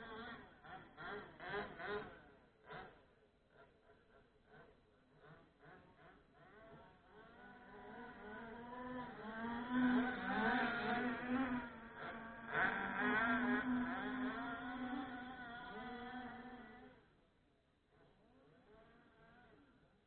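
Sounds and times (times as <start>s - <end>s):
small two-stroke engine revving: 0.0s - 17.3s, 17.9s - 20.0s.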